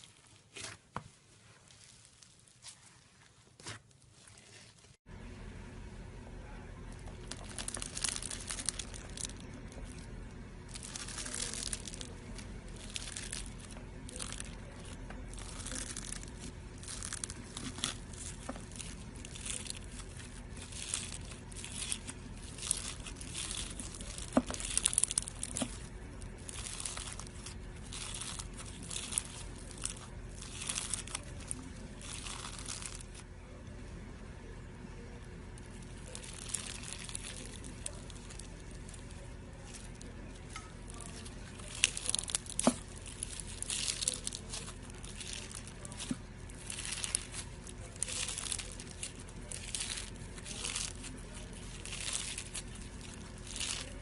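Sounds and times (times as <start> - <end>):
slime squelching by hand: 0.0 - 5.0, 6.8 - 33.3, 35.3 - 54.0.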